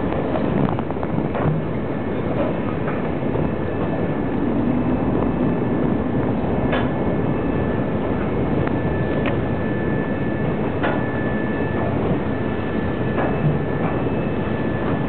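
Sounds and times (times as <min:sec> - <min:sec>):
water noise: 0:00.0 - 0:13.9
boat engine rumbling: 0:00.0 - 0:15.0
faint steady whine: 0:00.0 - 0:15.0
wind: 0:00.0 - 0:15.0.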